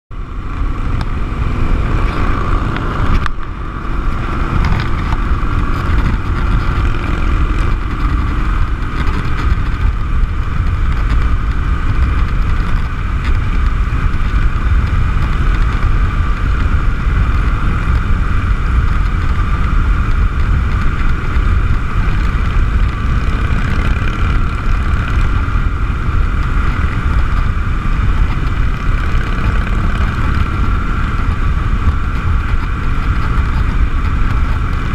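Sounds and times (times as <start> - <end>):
motorcycle engine droning: 0.1 - 34.9
wind rush on microphone: 0.1 - 34.9.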